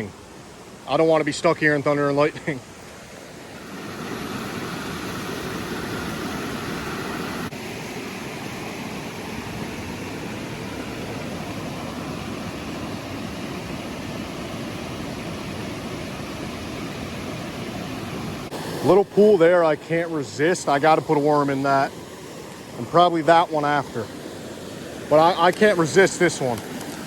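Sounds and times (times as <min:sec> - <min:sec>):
creek rushing over waterfalls: 0:00.0 - 0:27.0.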